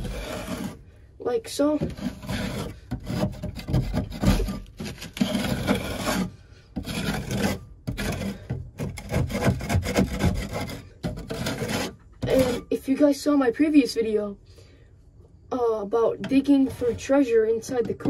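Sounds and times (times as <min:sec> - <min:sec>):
metal scraper scraping wood: 0:00.0 - 0:12.8, 0:16.2 - 0:18.0.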